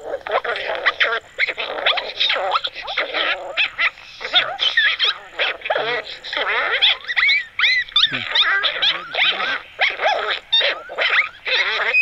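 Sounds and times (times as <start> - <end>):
coyotes yipping and howling: 0.0 - 12.0.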